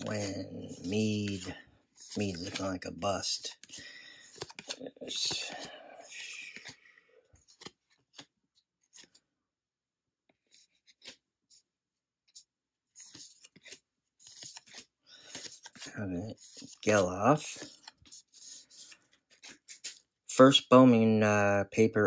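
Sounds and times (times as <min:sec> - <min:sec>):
cards sliding and brushing: 0:00.0 - 0:09.2, 0:10.3 - 0:20.1.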